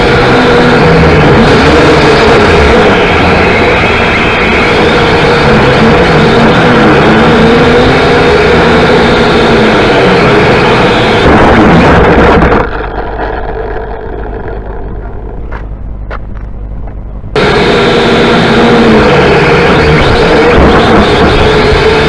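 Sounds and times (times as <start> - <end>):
motor drone: 0.0 - 22.0.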